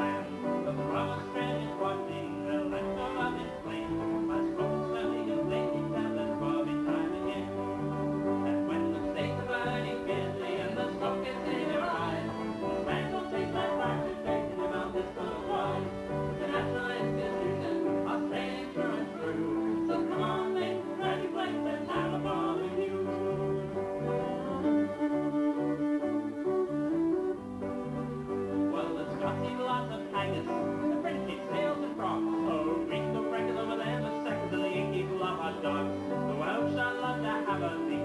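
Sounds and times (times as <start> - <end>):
fiddles playing a tune: 0.0 - 38.0
guitar: 0.0 - 38.0.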